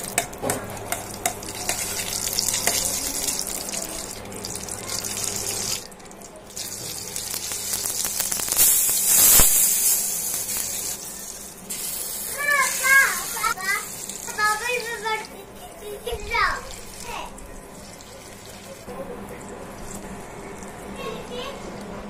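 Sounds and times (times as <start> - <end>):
butter sizzling and bubbling: 0.0 - 21.9.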